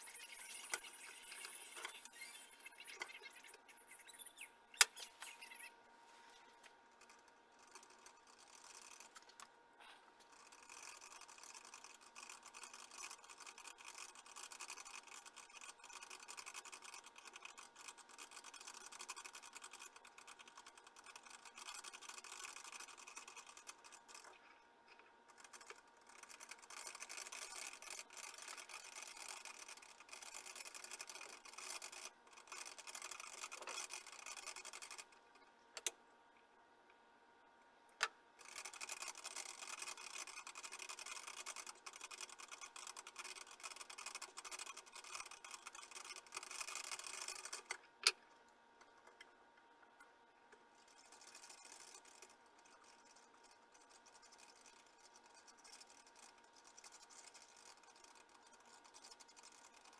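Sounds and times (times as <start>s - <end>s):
small motor whirring: 0.0s - 9.5s, 10.2s - 35.9s, 38.4s - 47.8s, 50.8s - 59.9s.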